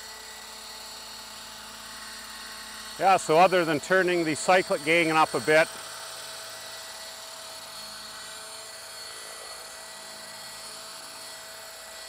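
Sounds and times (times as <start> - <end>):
motor whine: 0.0 - 12.0
rc helicopter rotor noise: 0.0 - 12.0.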